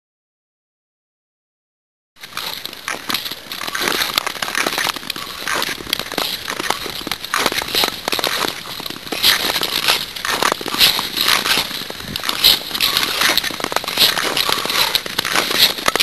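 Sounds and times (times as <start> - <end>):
ice clicking and crackling: 2.2 - 16.0
ice skates scraping on ice: 2.2 - 16.0.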